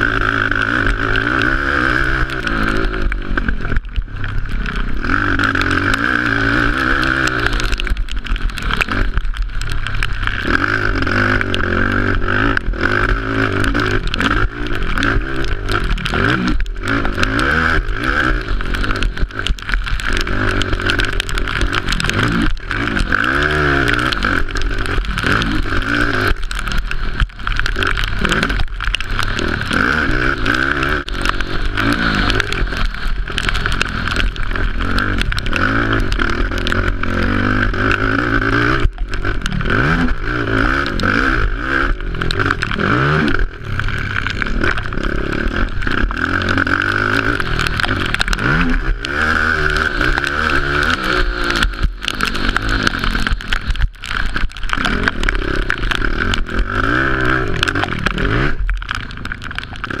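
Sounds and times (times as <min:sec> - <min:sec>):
quad engine revving: 0:00.0 - 0:03.7, 0:04.6 - 0:09.2, 0:10.3 - 0:58.7.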